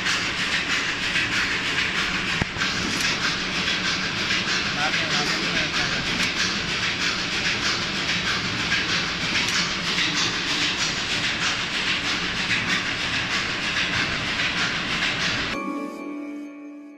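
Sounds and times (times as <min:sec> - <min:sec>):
feeder machine rhythmic clatter: 0:00.0 - 0:15.6.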